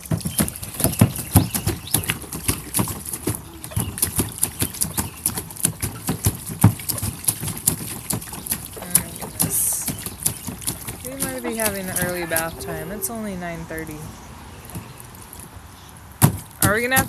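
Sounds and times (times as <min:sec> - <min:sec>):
splashing in shallow water: 0:00.0 - 0:17.0.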